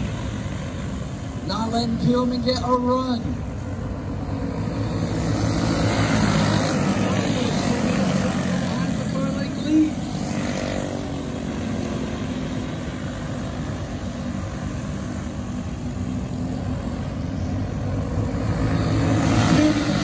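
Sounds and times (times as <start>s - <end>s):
racing kart engines droning: 0.0s - 20.0s.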